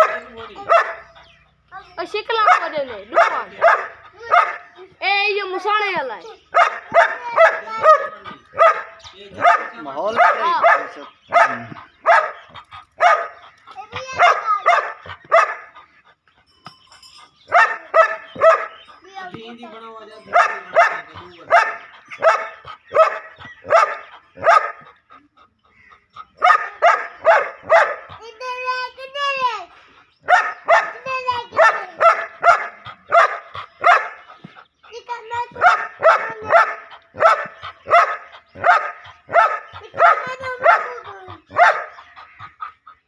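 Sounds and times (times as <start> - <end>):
dog barking: 0.0 - 1.4, 2.3 - 4.9, 6.4 - 15.9, 17.5 - 18.9, 20.2 - 25.2, 26.3 - 29.5, 30.2 - 42.8.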